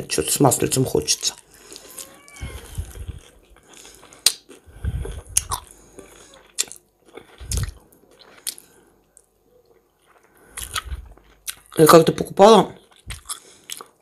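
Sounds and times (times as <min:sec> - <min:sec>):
person chewing: 0:00.7 - 0:12.0, 0:12.8 - 0:14.0.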